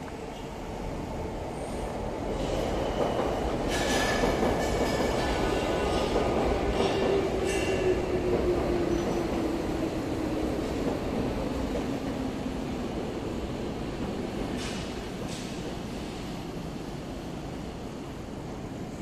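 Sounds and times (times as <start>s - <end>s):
train rumbling on viaduct: 0.0s - 19.0s.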